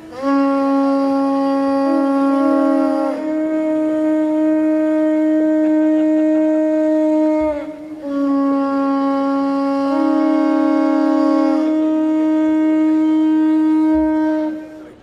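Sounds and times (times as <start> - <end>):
wind instrument long notes: 0.0 - 15.0.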